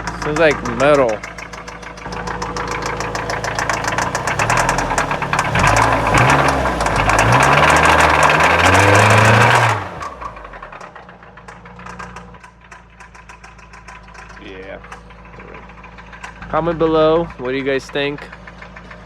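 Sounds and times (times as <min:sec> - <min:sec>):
rapid metallic clicking: 0:00.0 - 0:16.6
car engine revving: 0:00.0 - 0:19.0.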